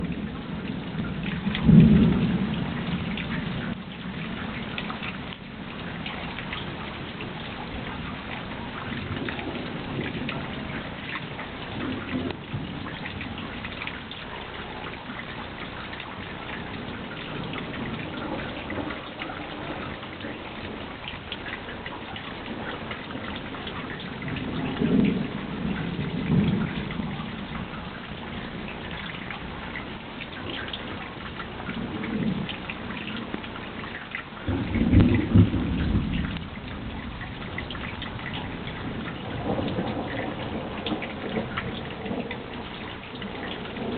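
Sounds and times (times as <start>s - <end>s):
steady rain falling: 0.0s - 43.9s
thunder rumbling: 0.0s - 43.9s.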